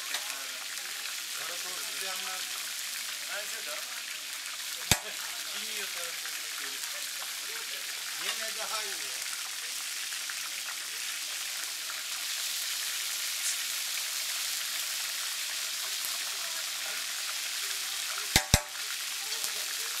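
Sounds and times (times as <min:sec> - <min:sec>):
mussels sizzling in hot oil: 0:00.0 - 0:20.0.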